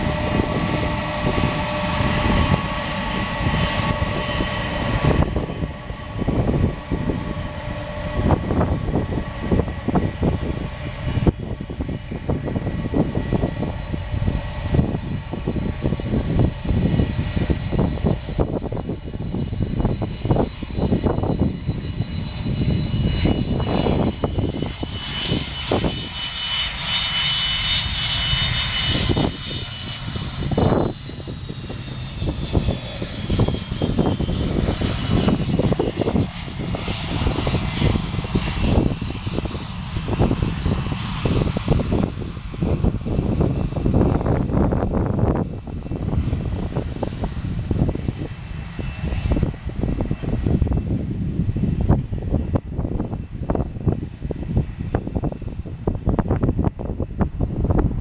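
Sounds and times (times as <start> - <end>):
high jet engine whine: 0.0 - 58.0
jet engines low rumble: 0.0 - 58.0.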